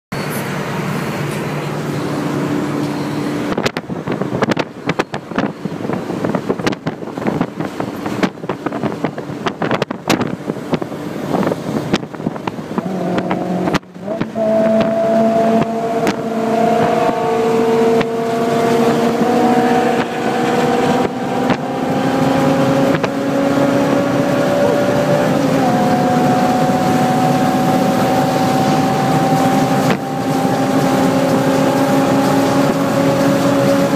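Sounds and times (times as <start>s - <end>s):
car engine accelerating: 0.2s - 33.9s
wind buffeting microphone: 2.8s - 33.9s.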